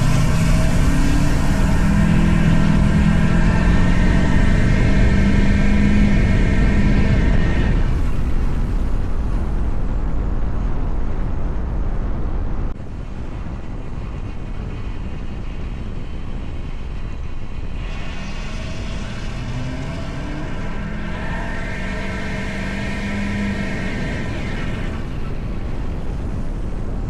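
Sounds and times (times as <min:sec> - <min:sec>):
diesel truck exhaust droning: 0:00.0 - 0:10.0, 0:13.2 - 0:27.0
road and wind noise: 0:00.0 - 0:27.0.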